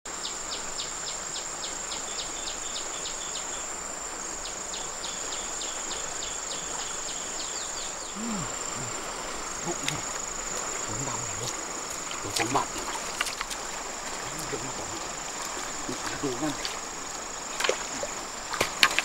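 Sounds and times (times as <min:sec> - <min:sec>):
insects droning: 0:00.1 - 0:19.0.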